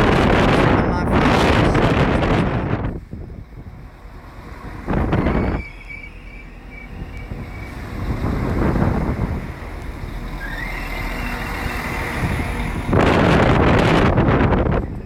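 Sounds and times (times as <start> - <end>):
train rumble with rising whine: 0.0 - 15.0
wind noise on microphone: 0.0 - 15.0.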